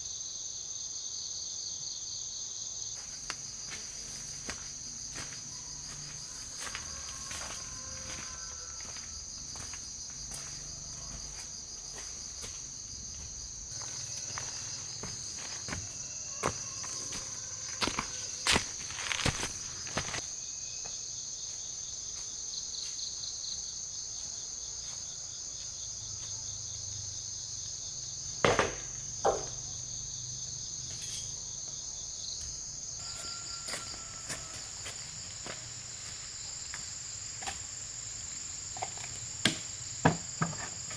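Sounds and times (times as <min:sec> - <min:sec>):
buzzing insect chorus: 0:00.0 - 0:40.9.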